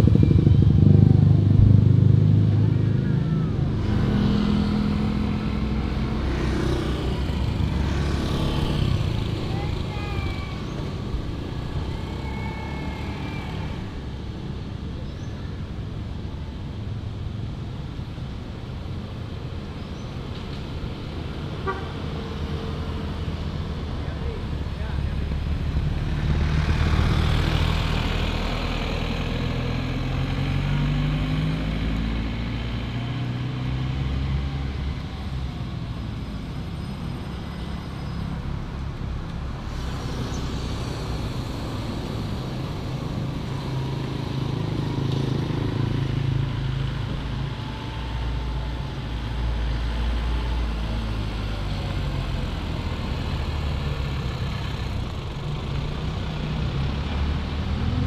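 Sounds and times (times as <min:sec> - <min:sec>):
vehicle engines rumbling: 0:00.0 - 0:58.0.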